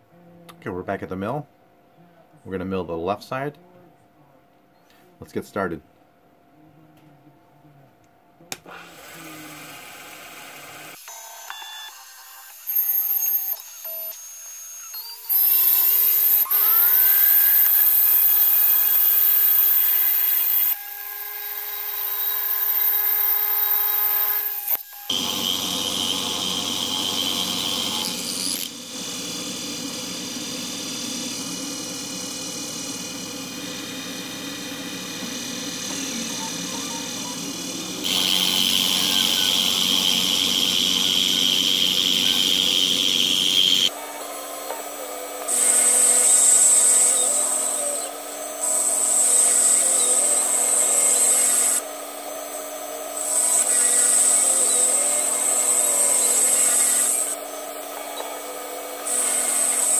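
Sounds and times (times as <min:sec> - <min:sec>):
milling machine cutting wood: 0:08.5 - 0:59.9.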